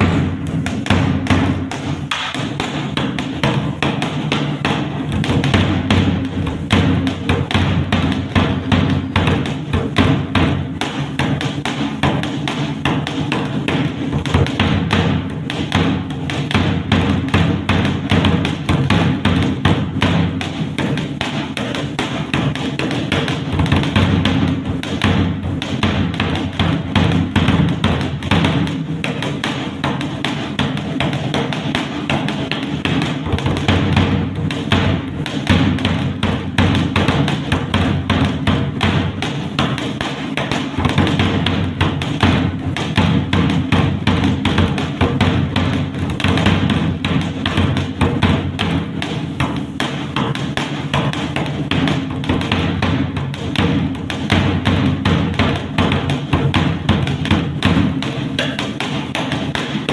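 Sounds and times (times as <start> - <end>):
drum played fast with sticks: 0.0 - 59.9.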